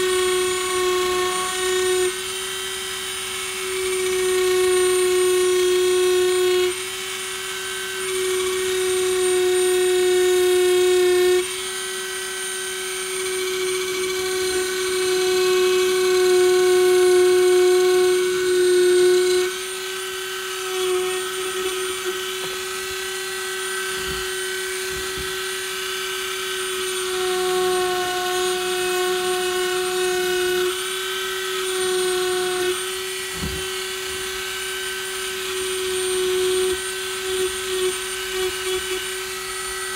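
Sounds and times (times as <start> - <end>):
rotary tool cutting wood: 0.0 - 39.9.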